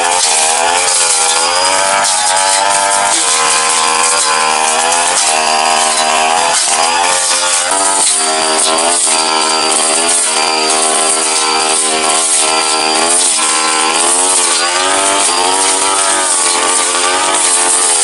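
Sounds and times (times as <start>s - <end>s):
brush cutter engine high revs: 0.0s - 18.0s.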